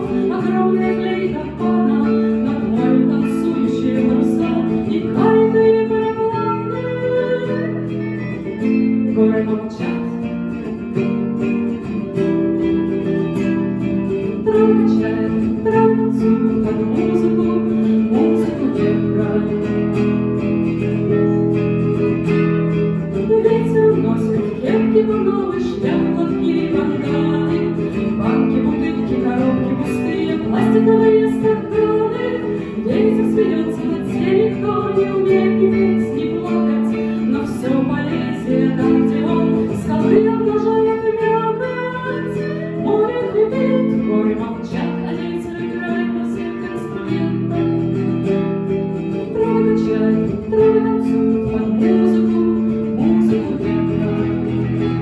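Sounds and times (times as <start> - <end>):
plucked acoustic guitar: 0.0 - 55.0.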